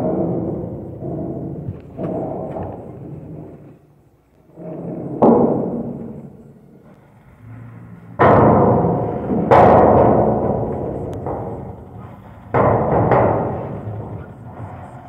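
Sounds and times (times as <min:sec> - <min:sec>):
heavy booming metal bangs: 0:00.0 - 0:15.0
low engine rumble: 0:00.0 - 0:15.0.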